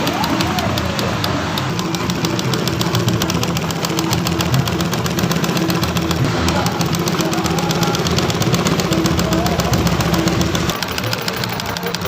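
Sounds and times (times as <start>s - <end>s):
sewing machine stitching: 0.0s - 12.0s.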